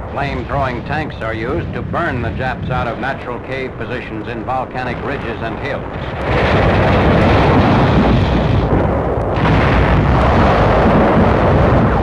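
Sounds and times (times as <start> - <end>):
rumbling explosions: 0.0 - 12.0.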